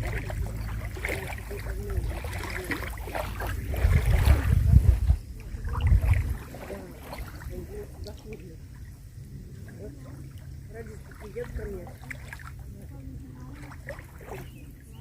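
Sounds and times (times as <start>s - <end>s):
faint distant voices: 0.0s - 15.0s
water: 0.0s - 15.0s
wind buffeting microphone: 0.0s - 15.0s.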